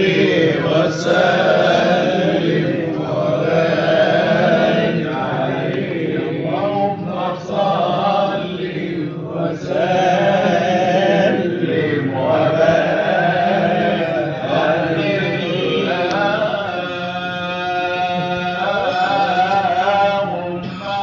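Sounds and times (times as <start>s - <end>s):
men chanting: 0.0s - 21.0s.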